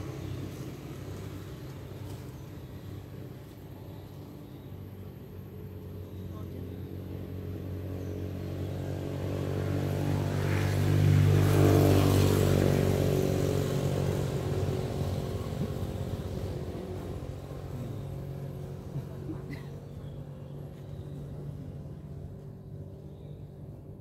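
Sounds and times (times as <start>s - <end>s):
road noise hiss: 0.0s - 23.8s
vehicle engine hum: 0.0s - 24.0s.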